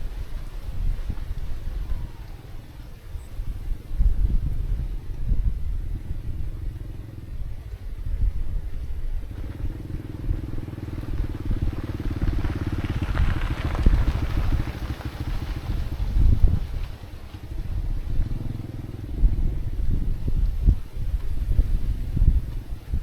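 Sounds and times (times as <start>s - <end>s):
engine rumbling: 0.0s - 23.0s
fast pulsing vehicle passing: 0.0s - 23.0s.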